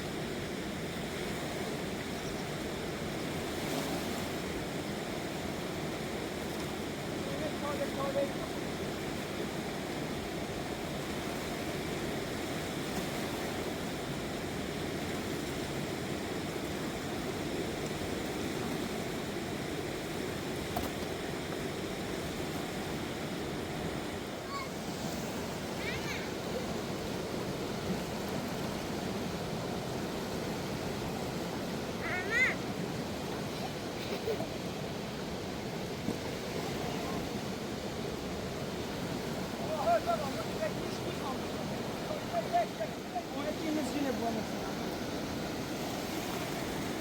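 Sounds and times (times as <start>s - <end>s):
river rushing in flood: 0.0s - 47.0s.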